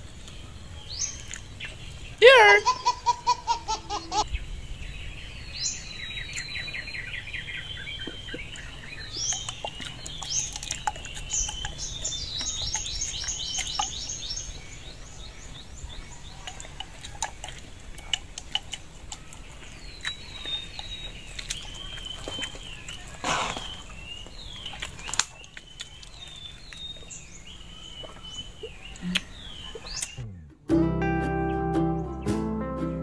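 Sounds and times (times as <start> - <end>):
birds chirping and trilling: 0.0 - 30.6.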